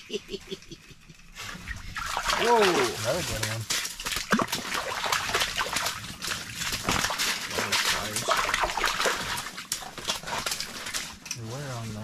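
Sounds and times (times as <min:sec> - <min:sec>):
fish flopping and splashing: 0:01.4 - 0:12.0.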